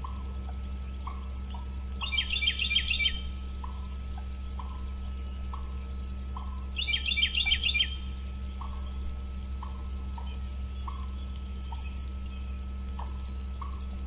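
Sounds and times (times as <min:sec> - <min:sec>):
eagle chattering call: 0:00.0 - 0:14.0
steady low hum: 0:00.0 - 0:14.0.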